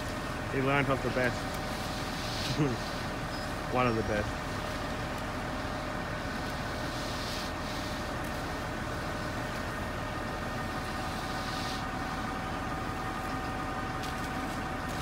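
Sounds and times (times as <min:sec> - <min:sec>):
pump engine running: 0:00.0 - 0:15.0.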